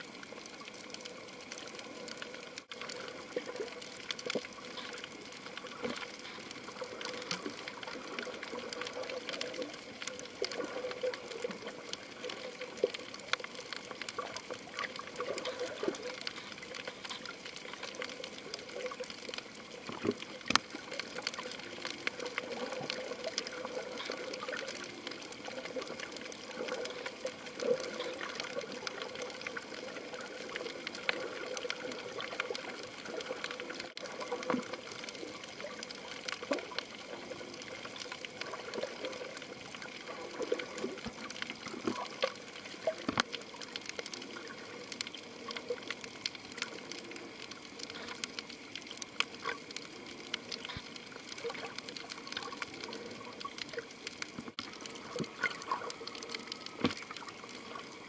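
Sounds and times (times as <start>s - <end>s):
faint clicks: 0.0s - 58.0s
muffled underwater water wash: 0.0s - 58.0s.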